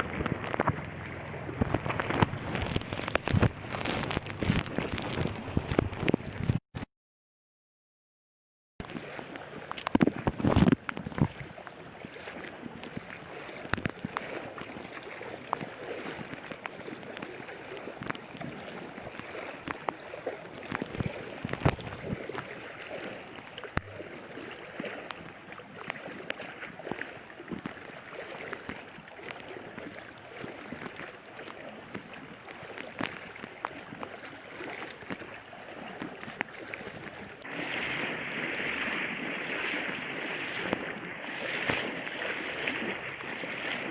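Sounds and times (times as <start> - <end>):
floodwater rushing: 0.0 - 6.6, 8.8 - 43.9.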